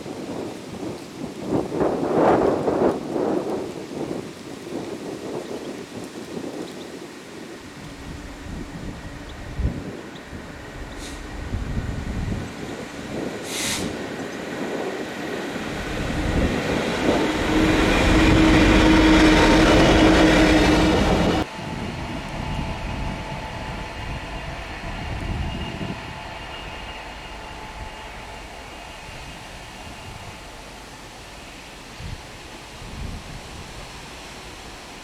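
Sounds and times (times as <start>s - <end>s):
train rumble: 0.0s - 35.0s
diesel train engine drone: 6.4s - 35.0s.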